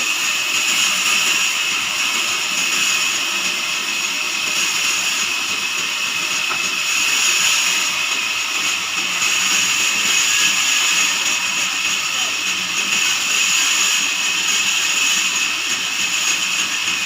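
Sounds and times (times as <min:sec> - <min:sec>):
band sawmill running: 0:00.0 - 0:17.0.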